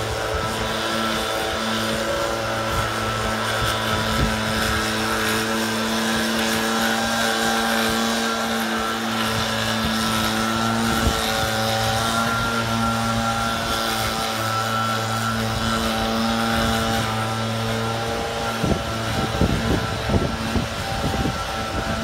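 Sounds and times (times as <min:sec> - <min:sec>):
air rushing from blower tube: 0:00.0 - 0:22.0
leaf blower engine running: 0:00.0 - 0:22.0.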